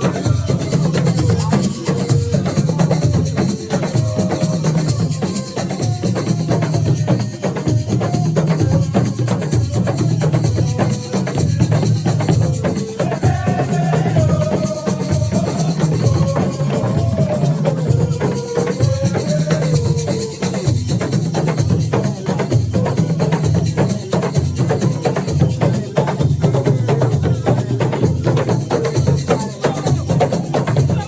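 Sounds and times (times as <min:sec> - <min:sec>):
fast drum and percussion groove: 0:00.0 - 0:31.0.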